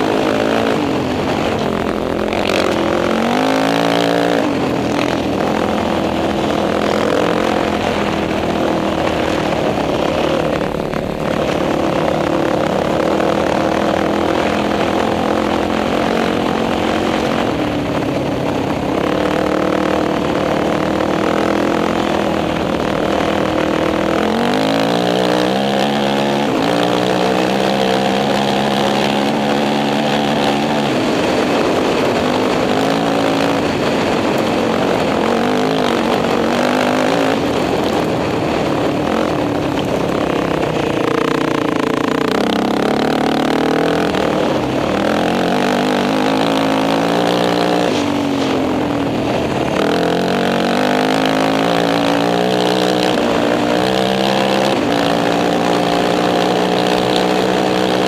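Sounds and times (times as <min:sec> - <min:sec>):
quad engine running hard: 0:00.0 - 0:58.0
wind noise: 0:00.0 - 0:58.0.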